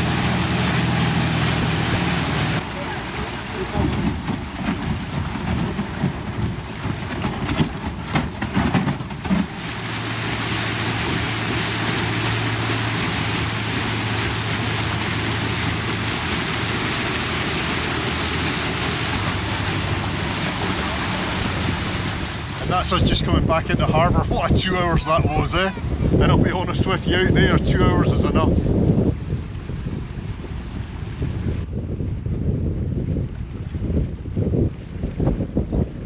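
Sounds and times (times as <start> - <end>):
boat engine humming: 0.0 - 32.3
rush of wind and water: 0.0 - 36.0
wind buffeting microphone: 0.0 - 36.0.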